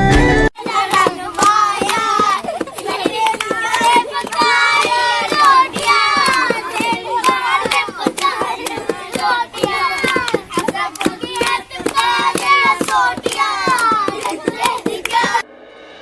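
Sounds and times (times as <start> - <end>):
children calling and singing: 0.0 - 15.4
sharp claps or knocks: 0.6 - 15.4.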